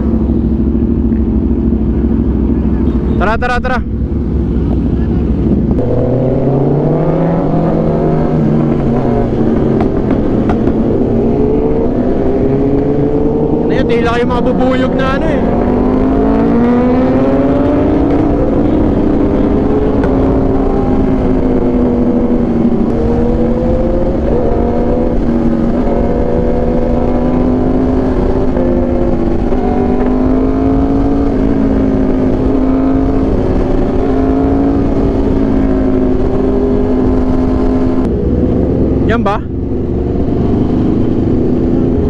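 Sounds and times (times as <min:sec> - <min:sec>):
low wind rumble: 0:00.0 - 0:42.0
motorcycle engines buzzing: 0:00.0 - 0:42.0.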